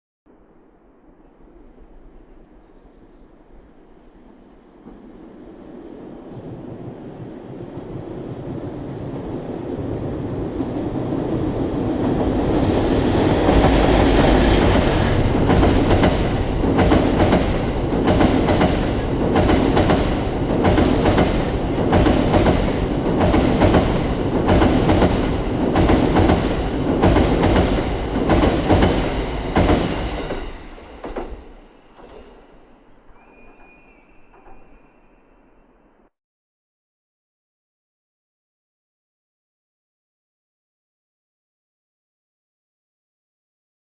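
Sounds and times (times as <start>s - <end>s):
train passing at speed: 0.3s - 36.1s.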